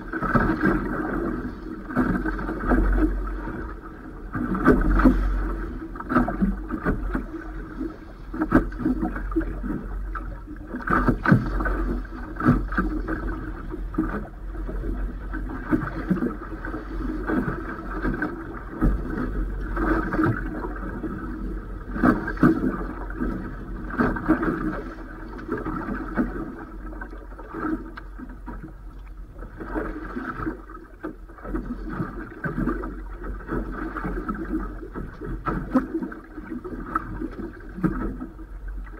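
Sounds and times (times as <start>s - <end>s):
waves slapping against hull: 0.0s - 38.9s
wind rumble on microphone: 0.0s - 38.9s.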